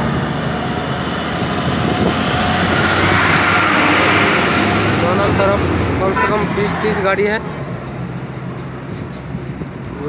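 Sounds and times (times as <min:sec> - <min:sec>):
truck engine humming: 0:00.0 - 0:10.0
tyres and trailer rushing: 0:00.0 - 0:10.0.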